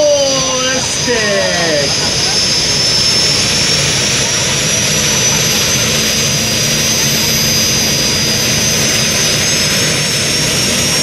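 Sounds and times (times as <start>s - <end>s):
high whine: 0.0s - 11.0s
tractor engine running at full power: 0.0s - 11.0s.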